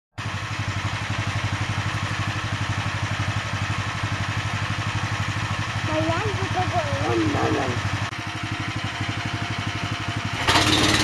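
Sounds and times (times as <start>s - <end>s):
sawmill engine idling: 0.2s - 11.0s.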